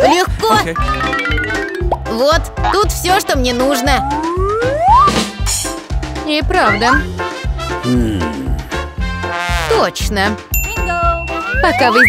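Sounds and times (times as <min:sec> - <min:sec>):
swing music with bass beat: 0:00.0 - 0:12.0.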